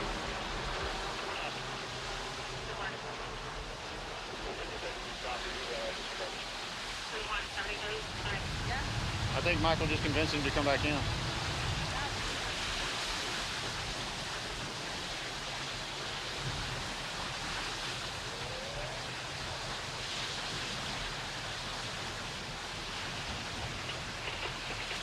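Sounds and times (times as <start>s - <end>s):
ocean surf on beach: 0.0s - 25.0s.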